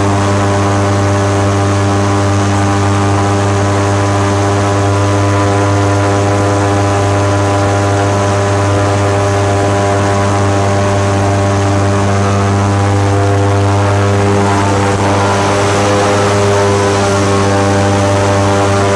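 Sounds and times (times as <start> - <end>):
airboat engine and propeller drone: 0.0 - 18.9.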